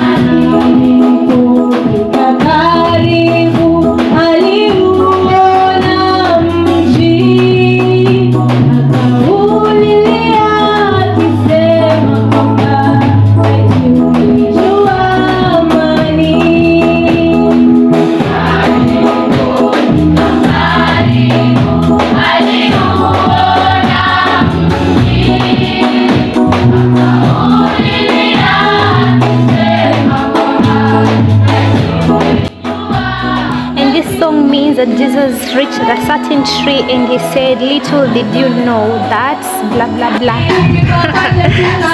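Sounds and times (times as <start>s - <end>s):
bass accompaniment: 0.0s - 41.9s
choir singing gospel: 0.0s - 41.9s.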